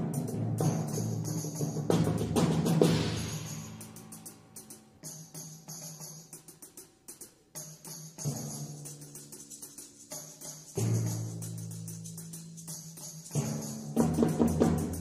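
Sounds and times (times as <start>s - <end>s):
percussion ensemble playing: 0.0s - 15.0s.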